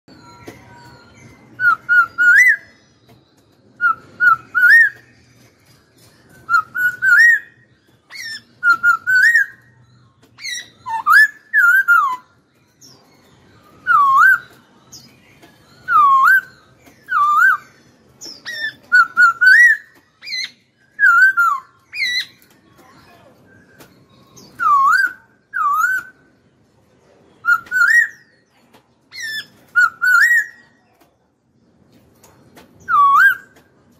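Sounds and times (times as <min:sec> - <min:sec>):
bird whistled song phrases: 0:00.1 - 0:26.4, 0:27.4 - 0:28.5, 0:29.1 - 0:31.0, 0:32.8 - 0:33.7.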